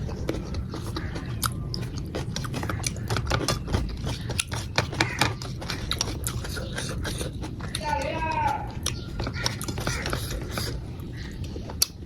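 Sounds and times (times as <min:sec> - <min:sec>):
wet chewing and mouth clicks: 0:00.0 - 0:12.0.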